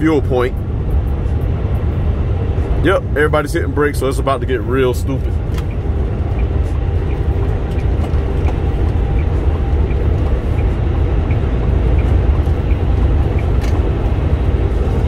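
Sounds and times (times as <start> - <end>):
engine and road rumble in cab: 0.0 - 15.0.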